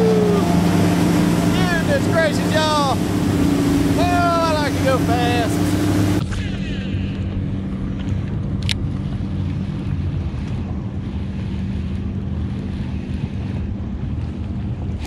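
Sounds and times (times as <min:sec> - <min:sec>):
boat motor humming: 0:00.0 - 0:15.0
wind buffeting microphone: 0:00.0 - 0:15.0.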